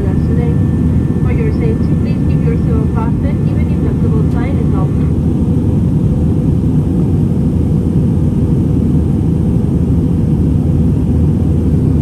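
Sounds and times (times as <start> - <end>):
jet engine rumble inside cabin: 0.0 - 12.0.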